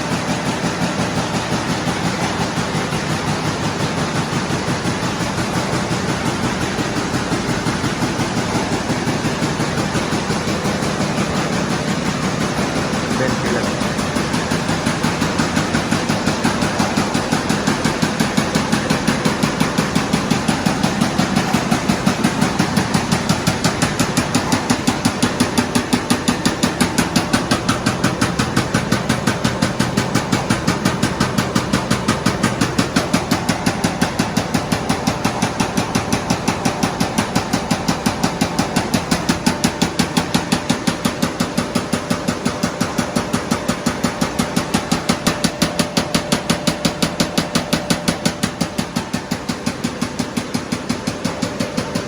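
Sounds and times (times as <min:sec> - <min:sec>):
rapid machine clacking: 0:00.0 - 0:52.0
steady machine noise: 0:00.0 - 0:52.0.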